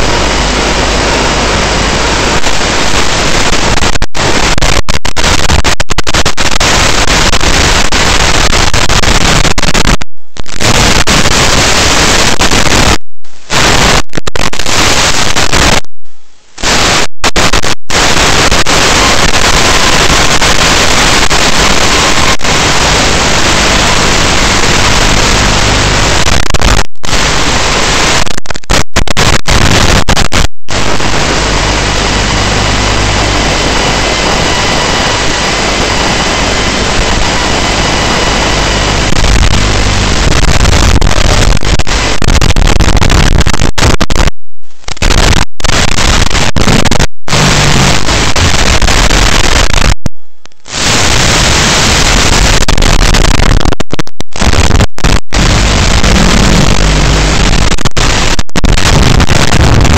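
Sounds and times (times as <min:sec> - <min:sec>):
loud static hiss: 0:00.0 - 0:59.9.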